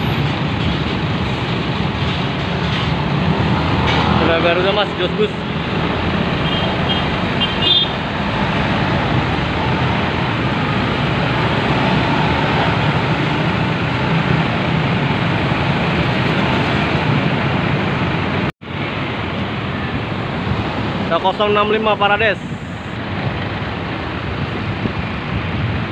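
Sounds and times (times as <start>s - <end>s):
heavy road traffic: 0.0s - 25.9s.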